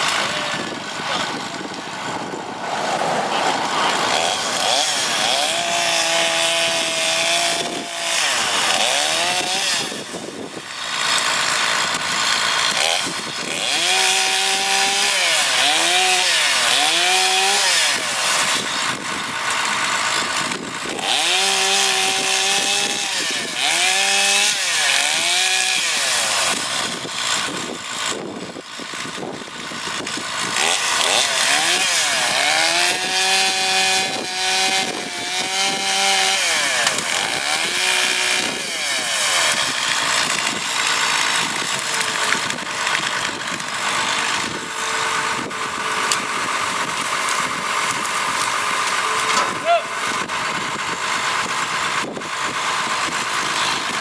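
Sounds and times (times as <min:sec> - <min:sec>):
excavator engine and hydraulics: 0:00.0 - 0:54.0
wood cracking and scraping: 0:00.0 - 0:54.0.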